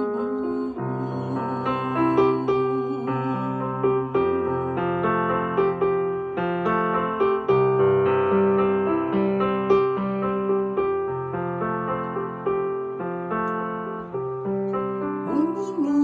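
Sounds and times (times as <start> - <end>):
piano melody over chords: 0.0 - 16.0.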